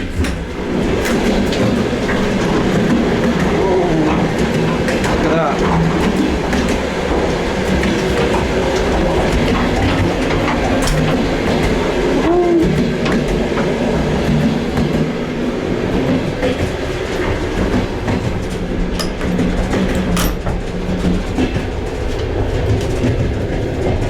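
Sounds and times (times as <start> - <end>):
sharp clicks from train wheels: 0.0 - 24.0
train rumbling and rattling: 0.0 - 24.0.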